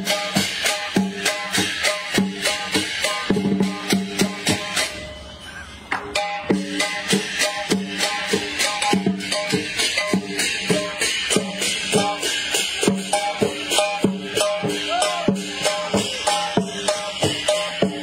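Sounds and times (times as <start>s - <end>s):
drum and cymbal beat: 0.0s - 18.0s.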